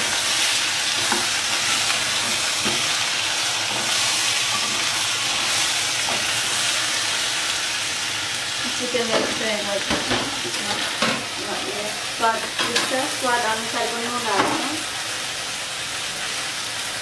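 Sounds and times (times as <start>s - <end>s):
chicken and onions sizzling in oil: 0.0s - 17.0s.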